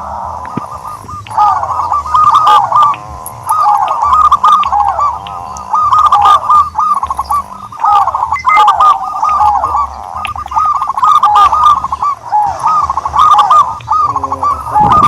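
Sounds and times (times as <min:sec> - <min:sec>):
turtledove cooing: 0:00.0 - 0:15.0.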